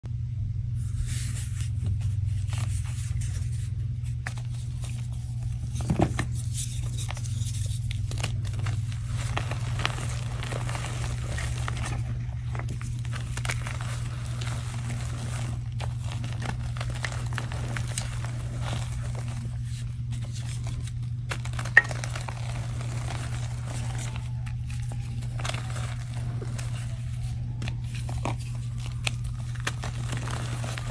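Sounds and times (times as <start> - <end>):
chalk crunching and crackling: 0.8 - 30.9.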